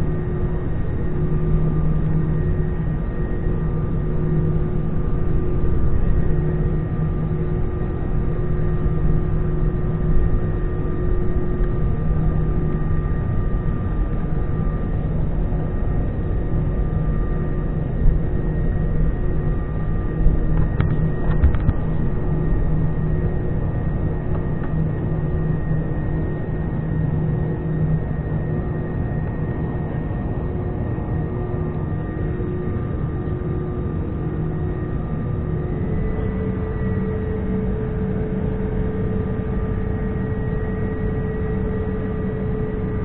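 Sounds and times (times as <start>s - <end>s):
faint engine whine: 0.0s - 43.0s
jet engines humming: 0.0s - 43.0s.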